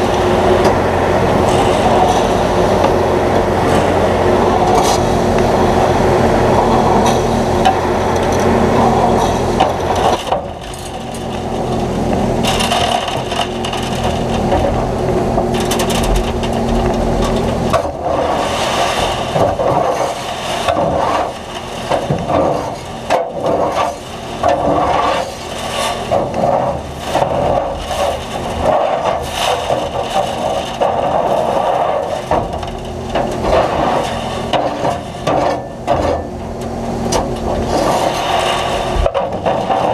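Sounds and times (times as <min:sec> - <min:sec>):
cracks knocks and scraping: 0:00.0 - 0:05.5, 0:06.4 - 0:39.9
combine harvester drone: 0:00.0 - 0:39.9.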